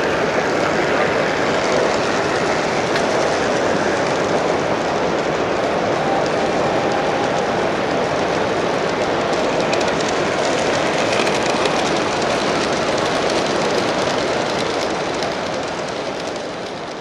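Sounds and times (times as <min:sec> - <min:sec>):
model train rumbling on track: 0:00.0 - 0:17.0
wheels clicking over rails: 0:00.0 - 0:17.0.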